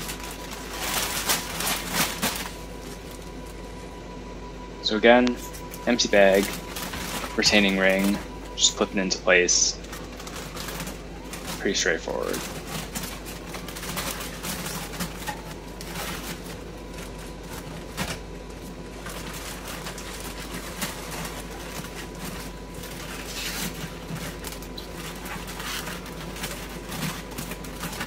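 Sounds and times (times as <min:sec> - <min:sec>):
plastic bag rustling: 0:00.0 - 0:04.0, 0:05.4 - 0:28.0.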